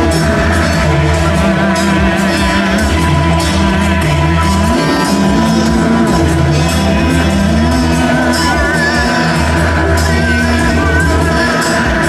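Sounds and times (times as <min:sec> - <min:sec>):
rock band playing live: 0:00.0 - 0:12.0
wavering high melody line: 0:00.0 - 0:12.0.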